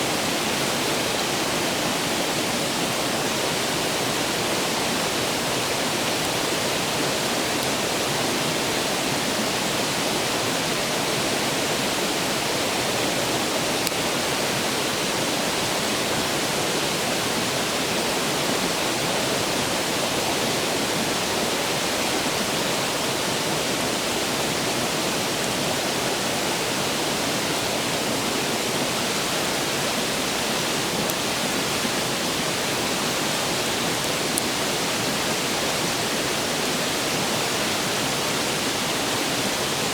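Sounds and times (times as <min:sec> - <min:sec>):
fast-flowing stream rushing: 0:00.0 - 0:39.9.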